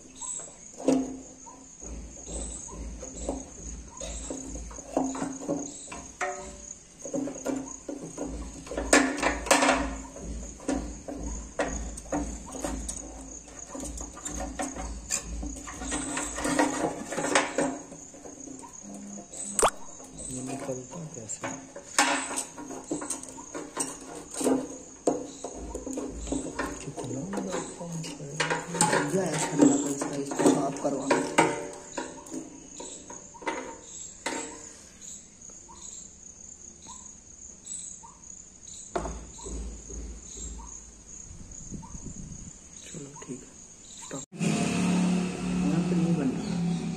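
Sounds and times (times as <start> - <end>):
cricket trilling: 0.0 - 44.4, 45.1 - 46.9.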